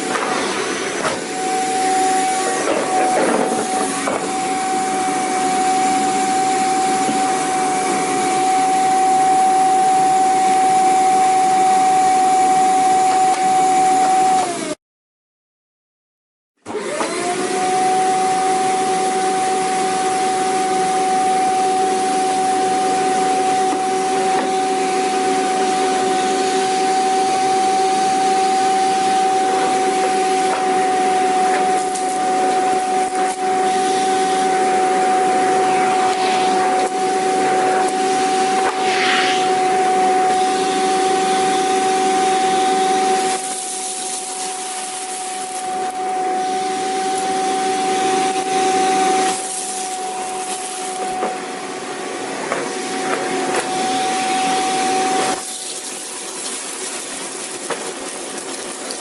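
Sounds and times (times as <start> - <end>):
vacuum cleaner switching on: 0.0 - 14.8, 16.6 - 59.0.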